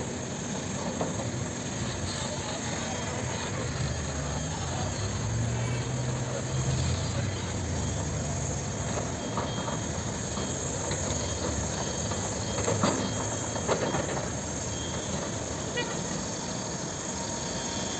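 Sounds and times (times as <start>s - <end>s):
excavator diesel engine under load: 0.0s - 17.9s.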